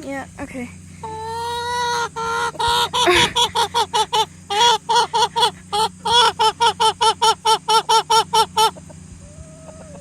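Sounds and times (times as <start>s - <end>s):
chicken calling: 0.9s - 10.0s.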